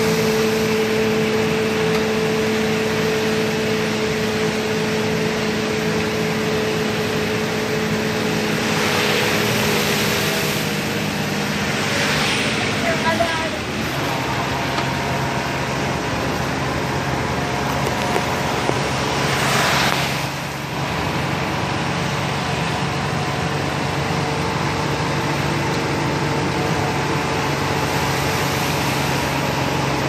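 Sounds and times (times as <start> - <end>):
heavy rain on a road: 0.0 - 30.0
low engine hum: 0.0 - 30.0.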